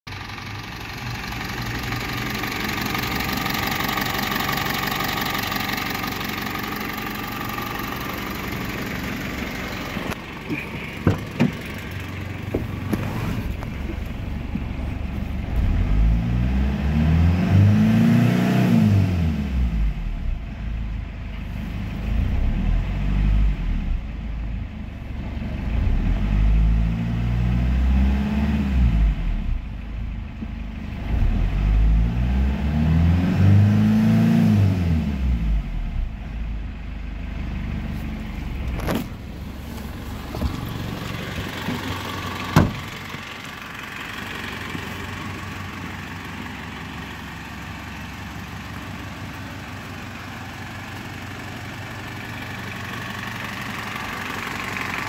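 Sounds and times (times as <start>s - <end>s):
diesel engine idling and revving: 0.0s - 55.0s.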